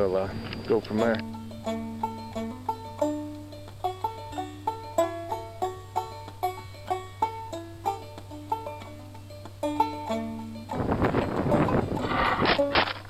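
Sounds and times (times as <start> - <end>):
banjo music: 0.0 - 13.0
low hum: 0.0 - 13.0.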